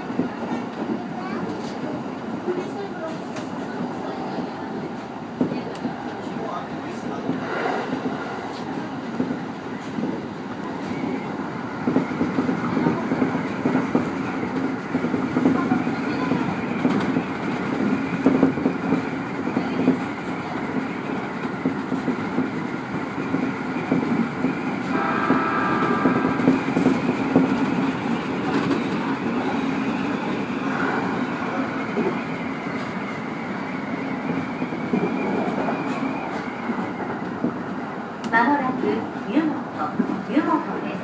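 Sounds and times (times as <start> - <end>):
clickety-clack of rail joints: 0.0 - 41.0
train wheels rumbling on rails: 0.0 - 41.0.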